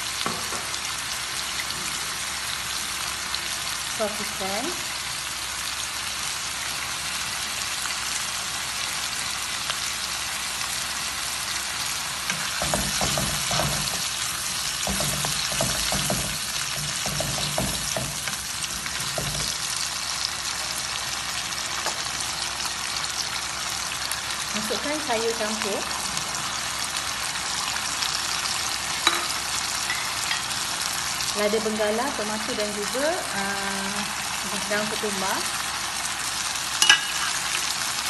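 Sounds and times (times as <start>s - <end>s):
chicken sizzling in wok: 0.0s - 38.0s.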